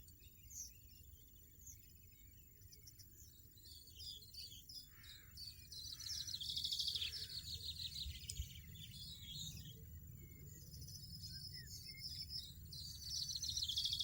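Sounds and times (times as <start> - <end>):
finches twittering: 0.0 - 14.0.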